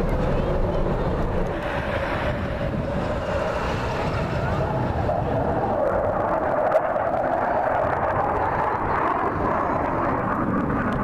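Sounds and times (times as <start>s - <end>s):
aircraft engine drone: 0.0s - 11.0s.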